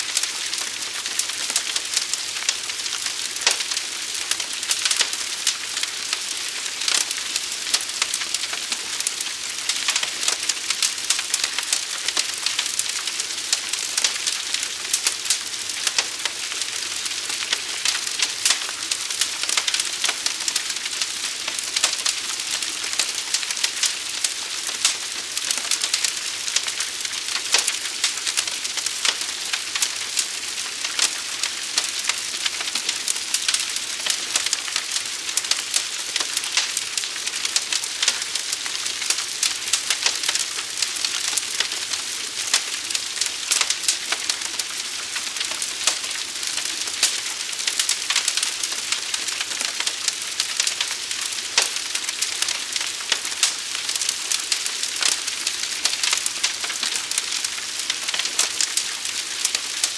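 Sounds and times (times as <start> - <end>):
fire crackling and hissing: 0.0 - 59.9
fire pops and snaps: 0.1 - 59.9.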